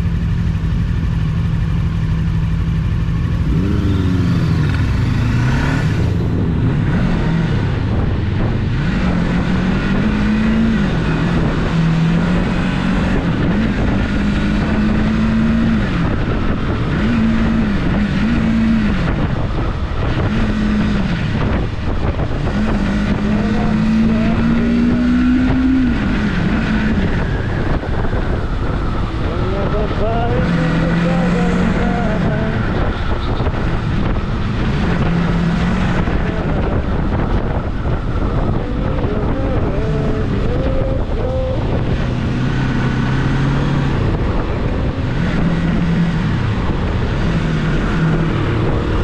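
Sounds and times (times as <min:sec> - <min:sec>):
motorcycle engine revving: 0:00.0 - 0:49.0
road and wind noise: 0:00.0 - 0:49.0.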